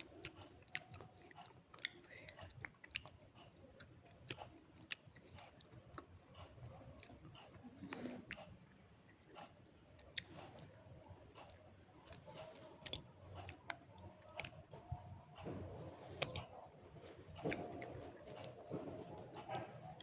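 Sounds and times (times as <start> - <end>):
person chewing with crunches: 0.0 - 8.5, 9.4 - 20.0.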